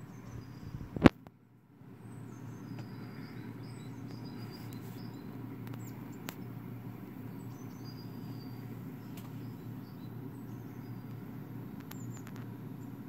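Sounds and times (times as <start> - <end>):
small birds chirping: 0.0 - 1.2, 1.8 - 13.0
steady low hum: 0.0 - 13.0.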